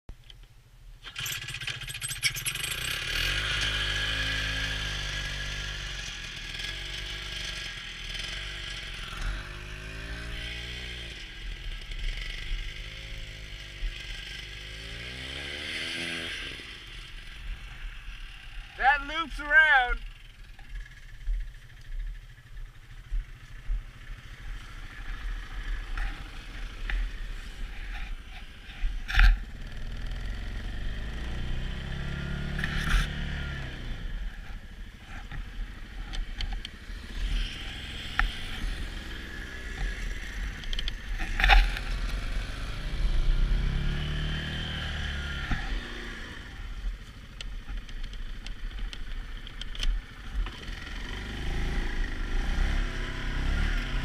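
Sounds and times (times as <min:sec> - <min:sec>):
atv engine revving: 0:01.0 - 0:54.0.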